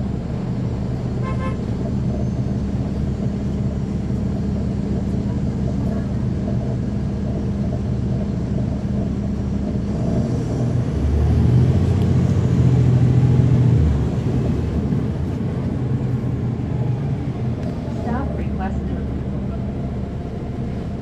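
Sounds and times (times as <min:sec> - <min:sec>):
bus diesel engine: 0:00.0 - 0:21.0.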